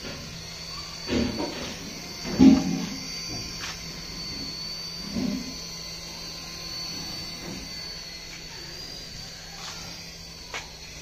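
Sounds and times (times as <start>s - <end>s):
low hum: 0.0s - 11.0s
toy helicopter motors whining: 0.0s - 11.0s.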